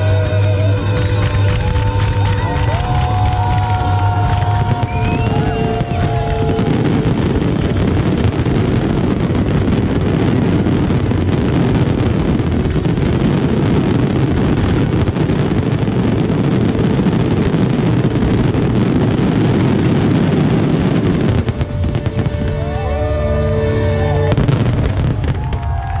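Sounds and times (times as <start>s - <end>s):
firework bursts and crackling: 0.0s - 26.0s.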